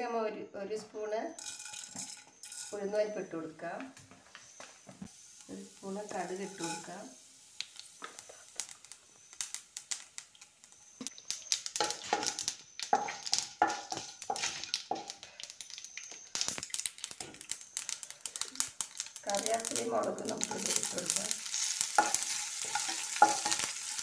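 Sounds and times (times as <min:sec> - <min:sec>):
seeds popping in hot oil: 0:01.3 - 0:24.0.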